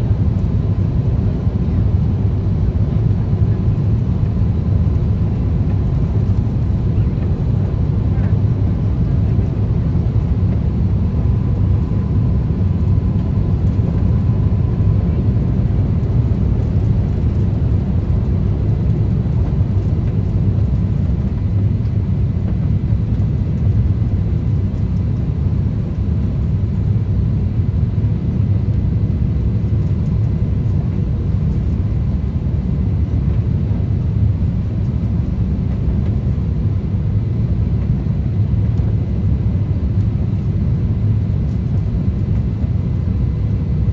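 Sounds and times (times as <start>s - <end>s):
airliner engine drone: 0.0s - 43.9s.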